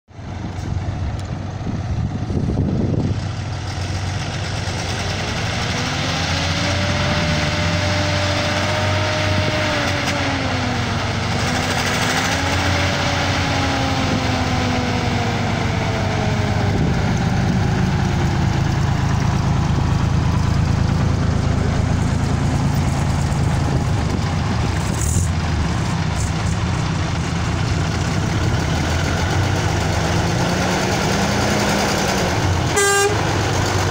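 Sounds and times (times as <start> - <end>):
diesel truck engines running: 0.1 - 33.9.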